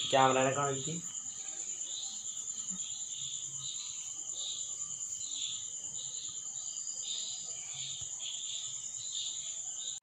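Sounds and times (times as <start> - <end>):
insect high-pitched trill: 0.0 - 10.0
lower pulsing insect call: 0.0 - 10.0.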